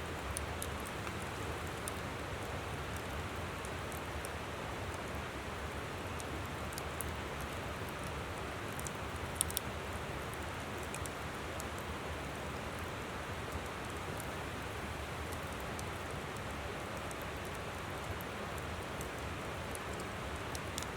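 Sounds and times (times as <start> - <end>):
campfire crackling and popping: 0.1 - 20.9.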